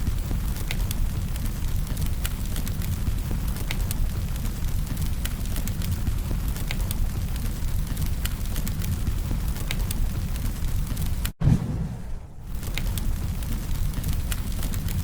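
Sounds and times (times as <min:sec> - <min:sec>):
firewood crackling and popping: 0:00.0 - 0:15.0
fire low rumble: 0:00.1 - 0:15.0.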